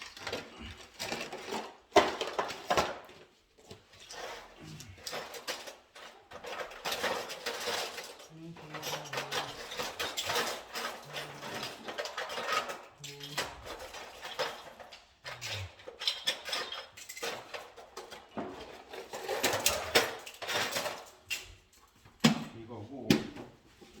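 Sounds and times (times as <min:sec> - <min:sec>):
hand tools clinking and scraping: 0:00.0 - 0:22.8.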